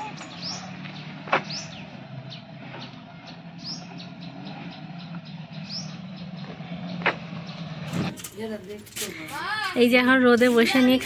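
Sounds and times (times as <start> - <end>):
birds chirping: 0.0 - 11.0
car engine idling: 0.0 - 11.0.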